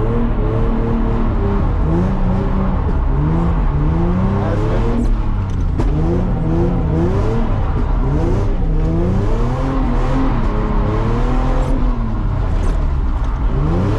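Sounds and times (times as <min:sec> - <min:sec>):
car engine revving while drifting: 0:00.0 - 0:13.9.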